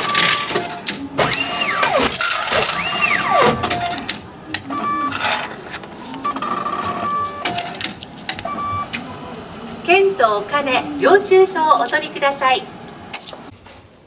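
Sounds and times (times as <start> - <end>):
ticket machine clicking and whirring: 0.0 - 9.1, 11.7 - 13.9.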